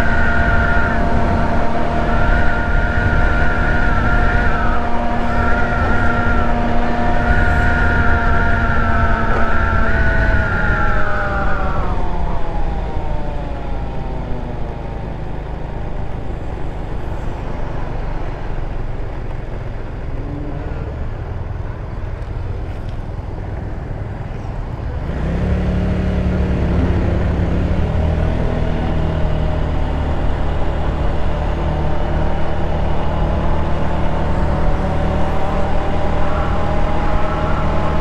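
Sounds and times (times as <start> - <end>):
road and wind noise: 0.0 - 38.0
scooter engine whine: 0.0 - 38.0.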